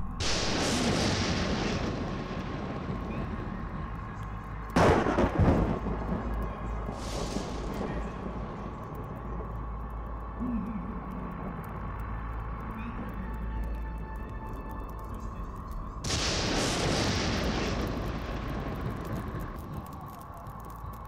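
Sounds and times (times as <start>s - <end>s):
booms: 0.0s - 12.2s, 16.0s - 21.0s
low drone: 0.0s - 21.0s.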